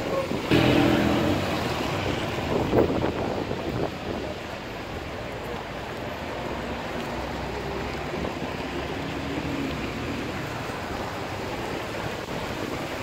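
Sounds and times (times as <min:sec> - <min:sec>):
low engine hum of traffic: 0:00.0 - 0:13.0
tyres hissing on wet road: 0:00.0 - 0:13.0.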